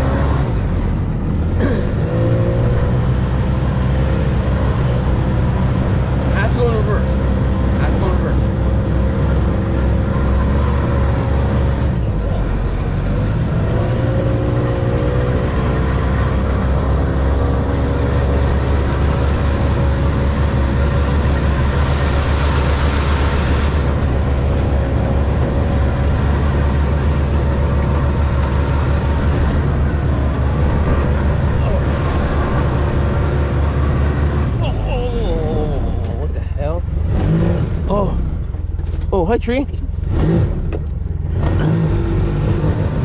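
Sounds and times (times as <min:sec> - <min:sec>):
utility vehicle engine running: 0:00.0 - 0:43.0.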